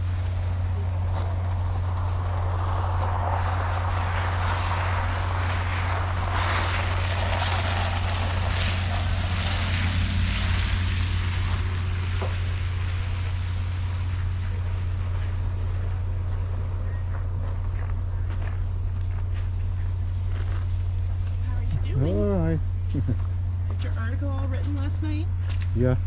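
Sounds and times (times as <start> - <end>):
train diesel engine humming: 0.0 - 25.5.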